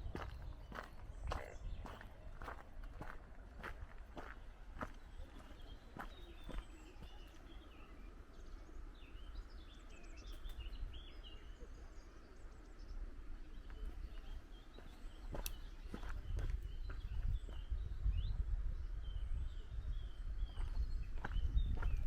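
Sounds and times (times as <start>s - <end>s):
songbird chirping and trilling: 0.0s - 22.0s.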